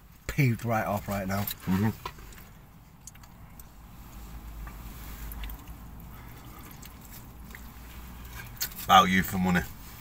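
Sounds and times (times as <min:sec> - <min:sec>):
low steady car hum: 0:00.0 - 0:10.0.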